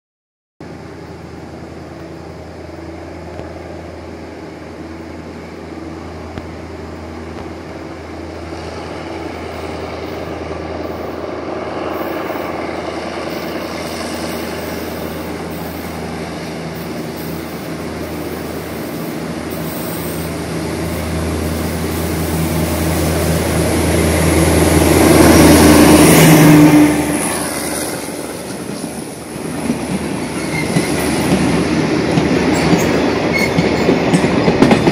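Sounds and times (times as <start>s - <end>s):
locomotive diesel engine hum: 0.6s - 34.9s.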